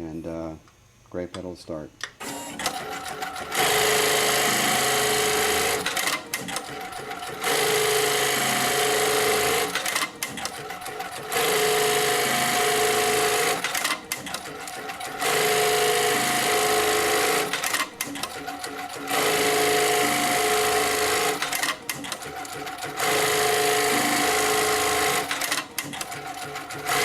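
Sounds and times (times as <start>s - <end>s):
sewing machine whining: 2.2s - 27.0s.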